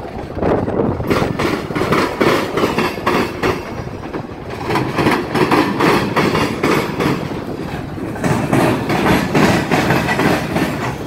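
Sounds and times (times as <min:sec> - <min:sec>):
train rumble: 0:00.0 - 0:11.0
wheels clicking over rail joints: 0:00.0 - 0:11.0.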